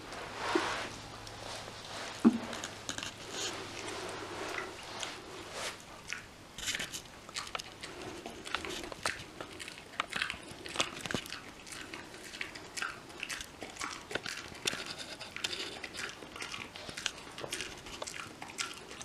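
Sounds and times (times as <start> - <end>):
dog chewing crunchy treat: 1.2 - 19.0.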